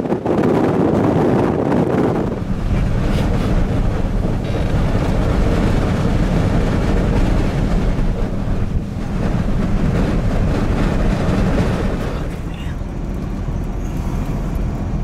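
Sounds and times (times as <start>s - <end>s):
wind buffeting microphone: 0.0s - 15.0s
wind rushing: 0.0s - 15.0s.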